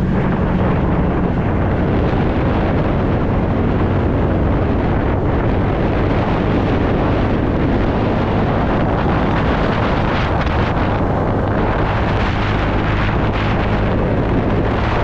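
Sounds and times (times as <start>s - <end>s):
scooter engine and road noise: 0.0s - 15.0s
wind rush over microphone: 0.0s - 15.0s.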